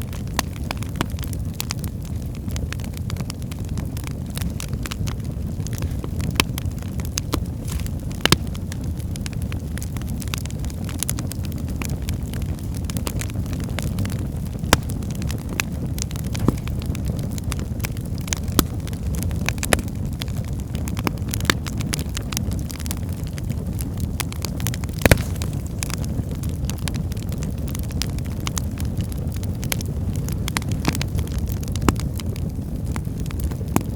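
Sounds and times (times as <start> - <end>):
firewood crackling and popping: 0.0 - 33.9
low rumble of flame: 0.0 - 33.9.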